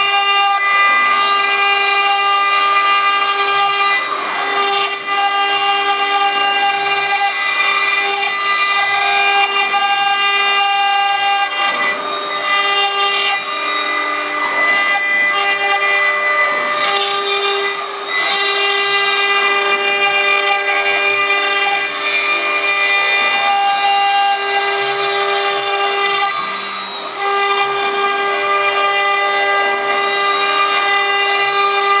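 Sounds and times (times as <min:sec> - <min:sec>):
router spindle whining cutting stone: 0:00.0 - 0:32.0.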